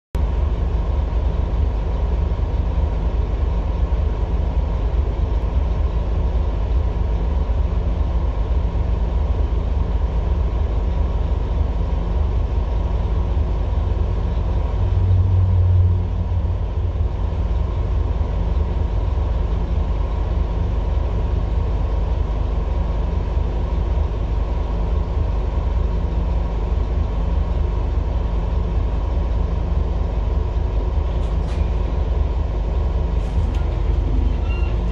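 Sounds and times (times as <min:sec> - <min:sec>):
diesel bus engine idling: 0:00.2 - 0:34.9.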